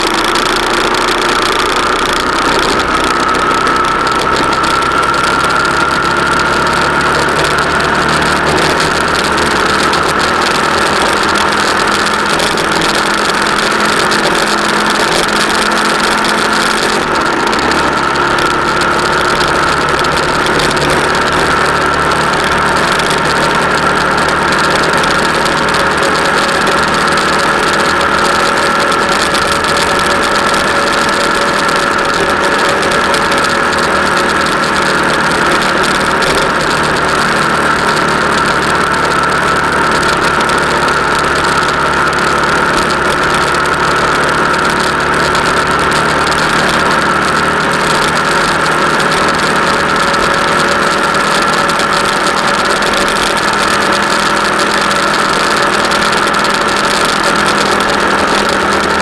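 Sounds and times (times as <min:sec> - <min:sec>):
road and wind noise: 0:00.0 - 0:59.0
vehicle engine cruising: 0:00.0 - 0:59.0.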